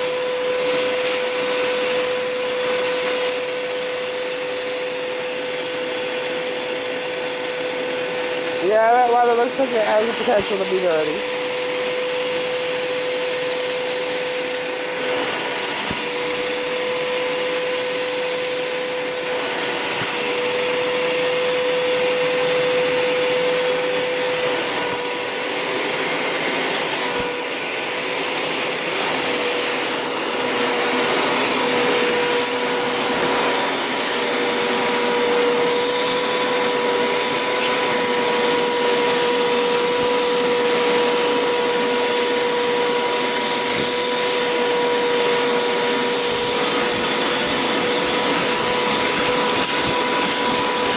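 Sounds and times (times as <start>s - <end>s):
carpet cleaner motor whine: 0.0s - 50.9s.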